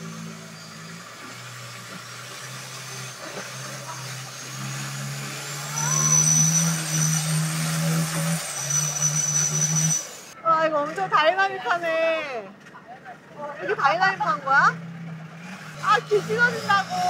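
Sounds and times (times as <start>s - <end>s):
boat engine revving: 0.0s - 17.0s.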